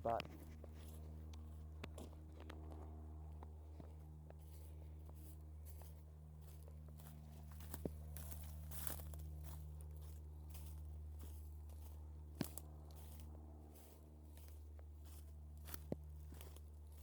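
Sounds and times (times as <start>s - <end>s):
footsteps crunching dry vegetation: 0.0s - 17.0s
steady low hum: 0.0s - 17.0s.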